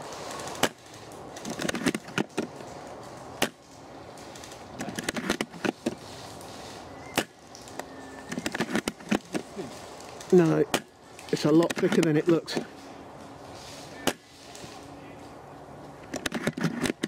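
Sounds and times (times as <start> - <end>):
pellets striking branches: 0.0 - 17.0.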